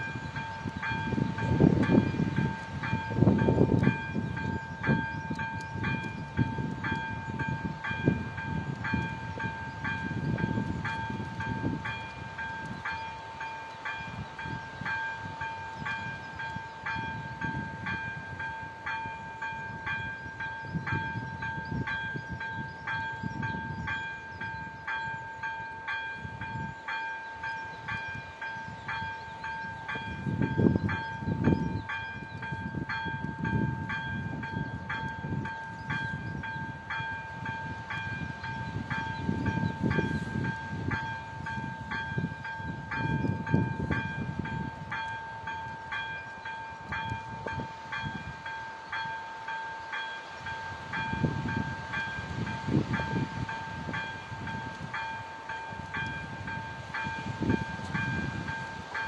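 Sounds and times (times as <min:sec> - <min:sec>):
two-tone warning bell ringing: 0:00.0 - 0:59.0.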